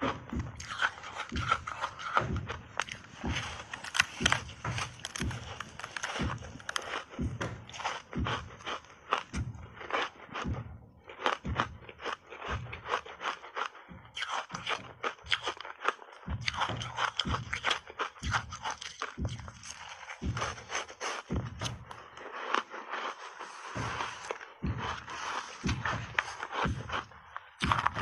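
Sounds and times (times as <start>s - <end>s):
ice crunching while chewed: 0.0s - 28.0s.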